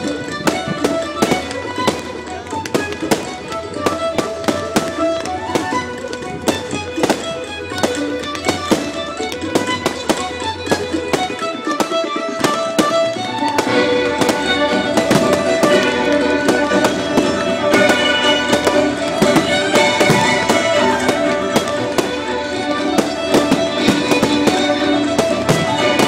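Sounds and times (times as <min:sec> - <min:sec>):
fireworks bangs and cracks: 0:00.0 - 0:26.0
music with sustained notes: 0:00.0 - 0:26.0.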